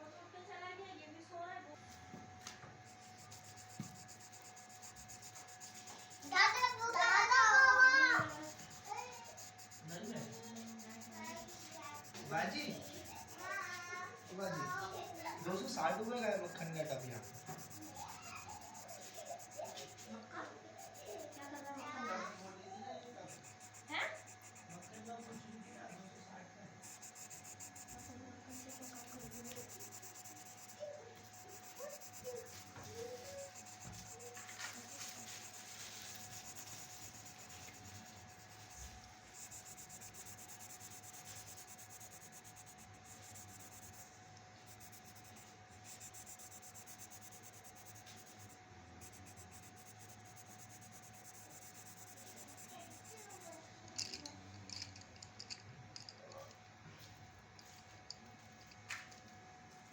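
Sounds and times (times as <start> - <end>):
faint steady hum: 0.0 - 59.9
drawing tool scratching paper: 2.8 - 22.1, 23.2 - 26.2, 26.8 - 53.6.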